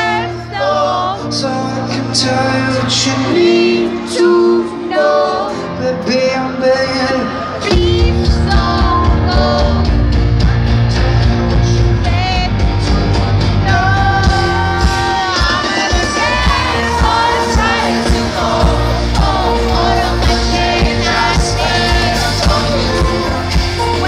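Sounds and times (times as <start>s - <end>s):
live band with singing: 0.0s - 24.0s.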